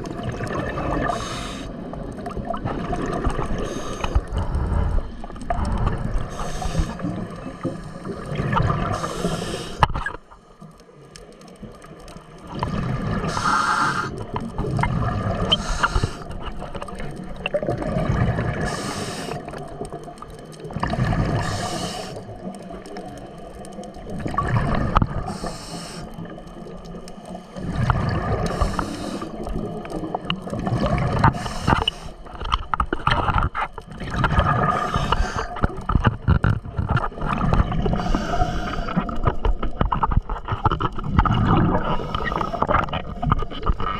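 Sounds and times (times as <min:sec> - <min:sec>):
water gurgling and sloshing: 0:00.0 - 0:43.9.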